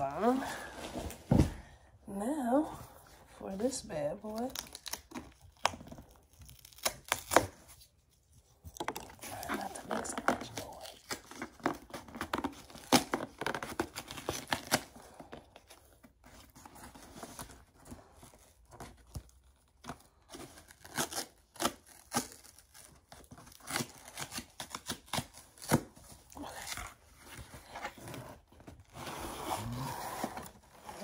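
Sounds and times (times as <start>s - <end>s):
cardboard and tape ripping: 4.2s - 8.0s, 8.6s - 31.0s.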